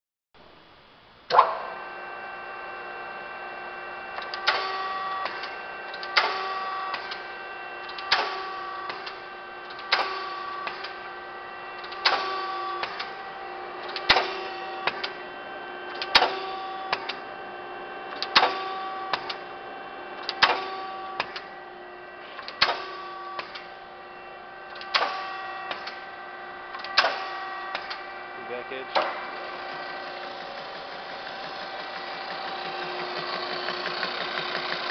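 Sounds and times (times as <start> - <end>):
power shear drive humming: 0.4 - 34.9.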